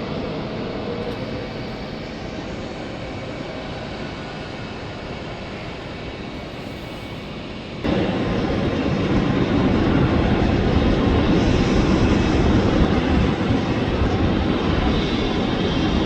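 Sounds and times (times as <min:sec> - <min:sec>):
airliner engine rumble with whine: 0:00.0 - 0:16.0.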